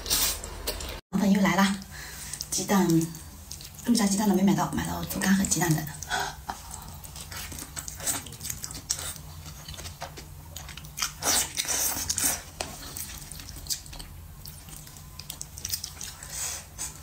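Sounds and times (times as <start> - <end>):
woman chewing with mouth smacks: 2.2 - 4.3, 5.0 - 17.0.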